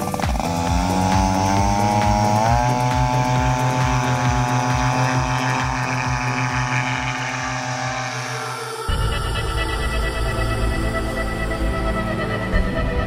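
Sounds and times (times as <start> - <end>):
paramotor engine and propeller: 0.0 - 13.0.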